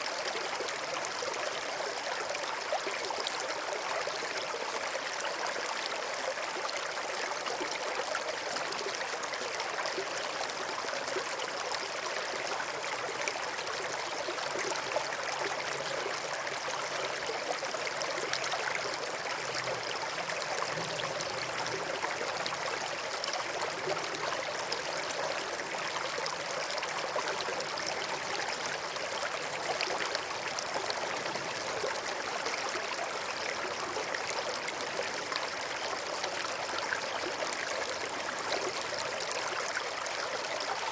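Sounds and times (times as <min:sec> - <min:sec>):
stream trickling over stones: 0:00.0 - 0:40.9.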